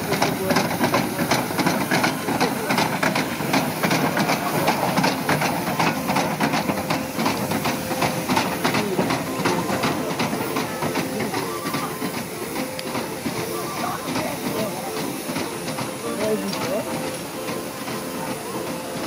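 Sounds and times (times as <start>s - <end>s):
steady hiss of steam: 0.0s - 19.0s
steam locomotive exhaust chuffing: 0.0s - 19.0s.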